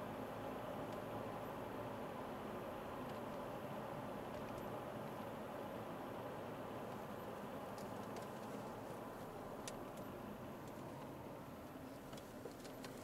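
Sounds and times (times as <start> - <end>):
car cabin engine and tyre hum: 0.0 - 13.0.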